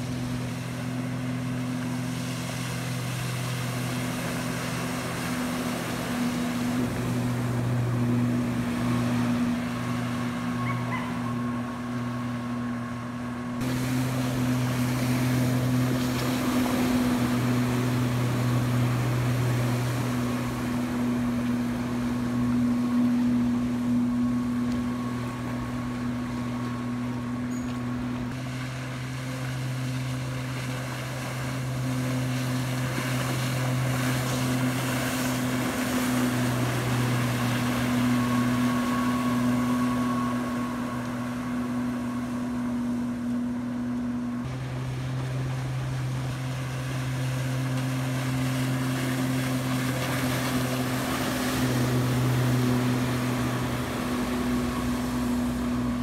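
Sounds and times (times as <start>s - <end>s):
jet ski engine drone: 0.0s - 56.0s
rushing water: 0.0s - 56.0s.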